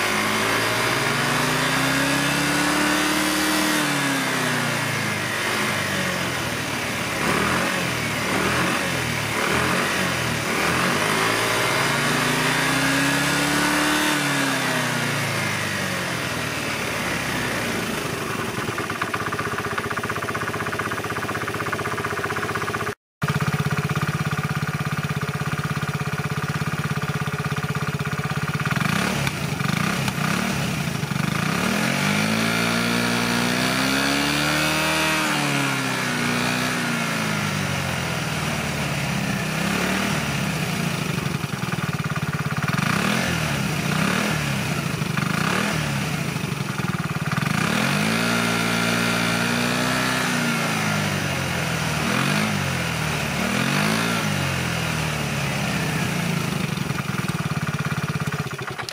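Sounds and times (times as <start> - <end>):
scooter engine idling and revving: 0.0 - 58.9.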